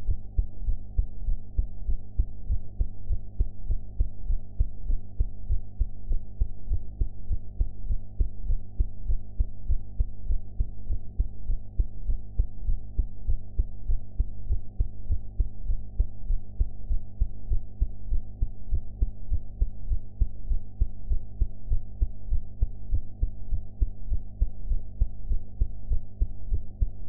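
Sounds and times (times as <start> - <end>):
constant low hum: 0.0 - 27.0
heartbeat thumps: 0.0 - 27.0.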